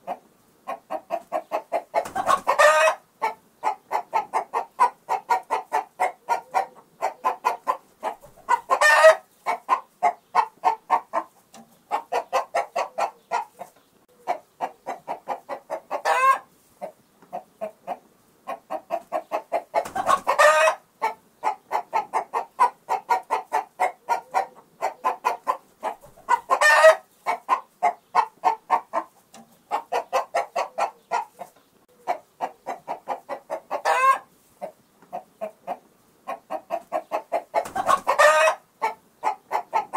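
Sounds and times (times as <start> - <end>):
chickens clucking: 0.0 - 39.9
chicken squawking: 0.1 - 11.3, 11.9 - 16.5, 17.4 - 29.1, 29.7 - 34.3, 35.2 - 39.9.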